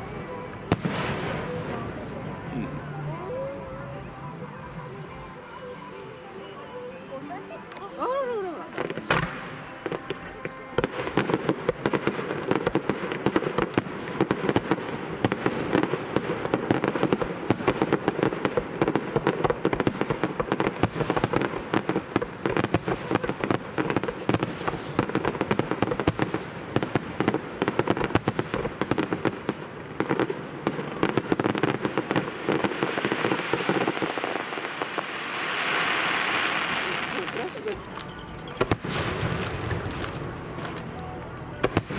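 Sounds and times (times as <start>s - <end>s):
fireworks crackling: 0.0s - 41.9s.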